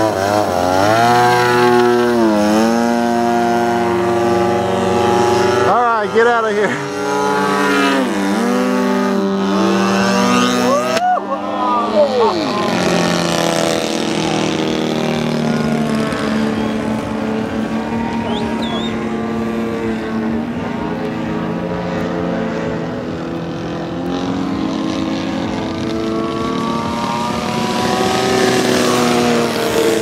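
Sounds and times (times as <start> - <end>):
model airplane engine droning: 0.0 - 30.0.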